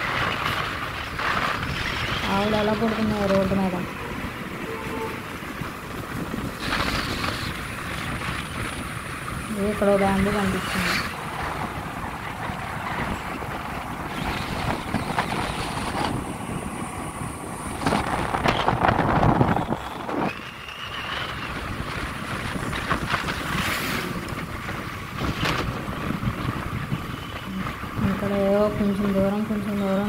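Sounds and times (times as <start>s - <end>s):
road and engine noise: 0.0s - 30.0s
wind buffeting microphone: 0.0s - 30.0s.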